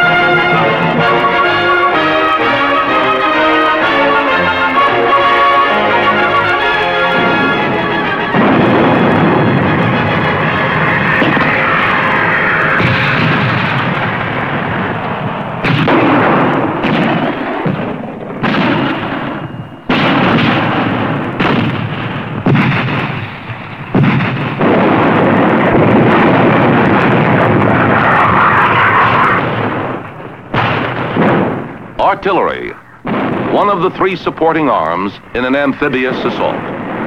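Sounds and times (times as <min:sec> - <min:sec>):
artillery guns firing: 0:00.0 - 0:37.0.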